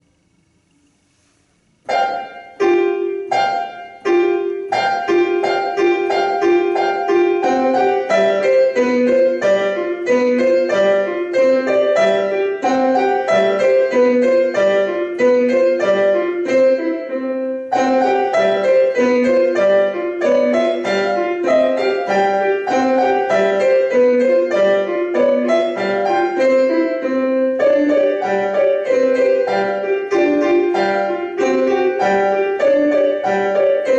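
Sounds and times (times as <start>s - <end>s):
piano duet: 0.0s - 33.9s.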